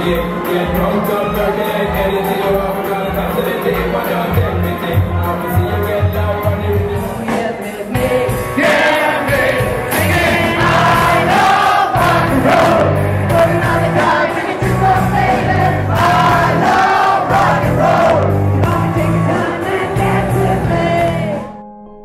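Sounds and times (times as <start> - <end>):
loud music with singing: 0.0 - 21.6.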